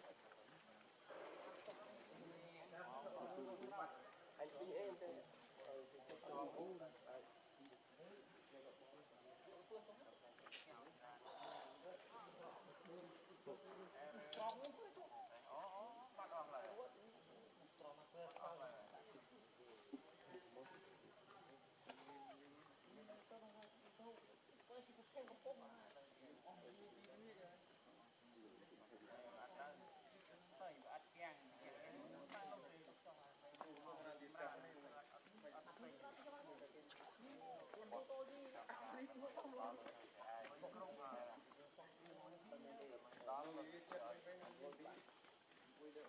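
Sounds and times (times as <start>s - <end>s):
insect trill: 0.0s - 46.0s.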